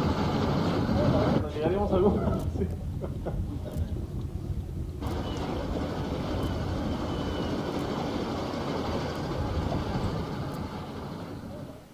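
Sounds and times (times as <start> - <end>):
boat rumbling across water: 0.0 - 11.9.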